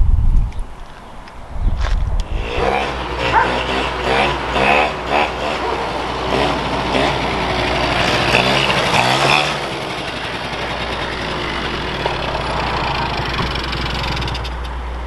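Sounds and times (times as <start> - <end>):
quad bike engine revving: 2.2 - 14.8.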